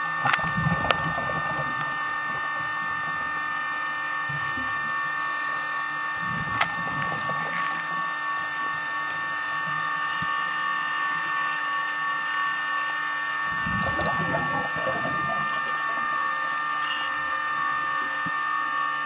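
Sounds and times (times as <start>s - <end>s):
underwater mechanical hum: 0.0s - 19.0s.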